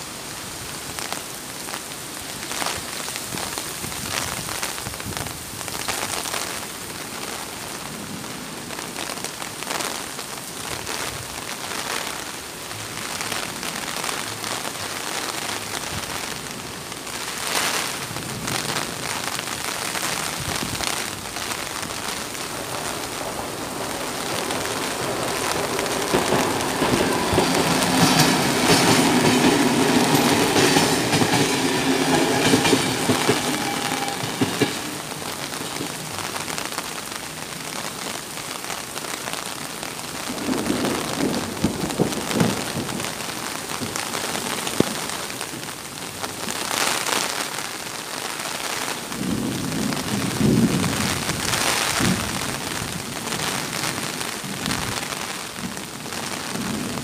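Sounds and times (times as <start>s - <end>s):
heavy rain on wet road: 0.0s - 57.0s.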